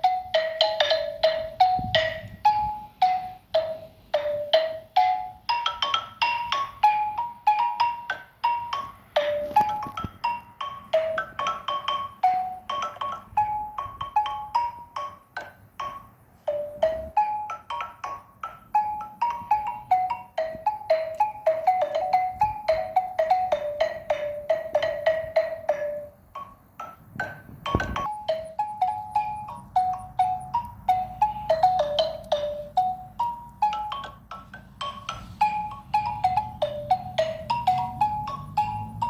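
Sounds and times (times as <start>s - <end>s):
xylophone played with mallets: 0.0s - 39.0s.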